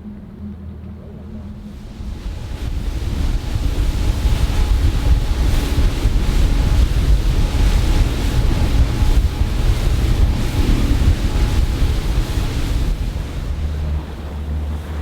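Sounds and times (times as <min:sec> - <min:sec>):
faint engine hum: 0:00.0 - 0:15.0
water rushing past boat: 0:00.0 - 0:15.0
wind buffeting microphone: 0:00.0 - 0:15.0.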